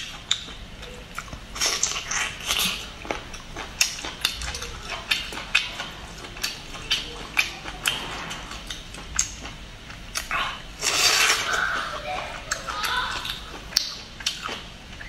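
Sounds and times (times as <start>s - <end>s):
mouth chewing with lip smacks: 0.0s - 15.0s.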